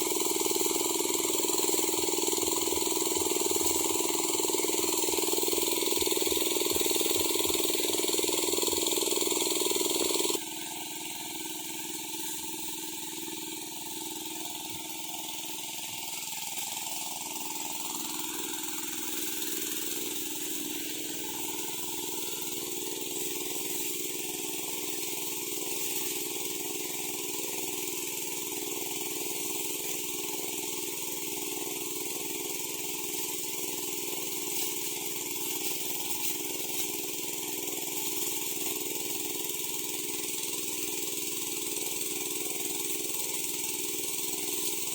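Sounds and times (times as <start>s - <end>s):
power sprayer engine running: 0.0s - 44.9s.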